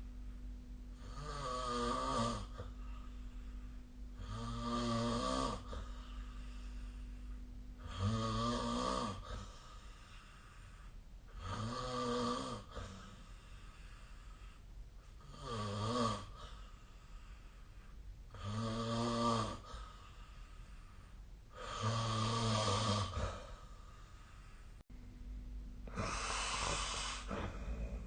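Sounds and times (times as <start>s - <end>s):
person snoring: 1.0s - 14.6s, 15.2s - 17.6s, 18.3s - 20.8s, 21.5s - 23.7s, 25.8s - 28.0s.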